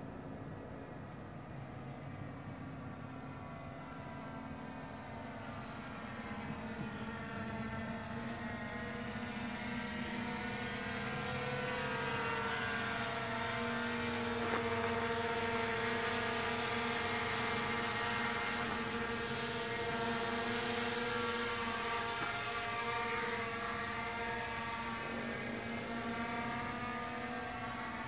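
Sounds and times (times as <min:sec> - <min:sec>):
drone propellers whining: 0:02.9 - 0:28.0.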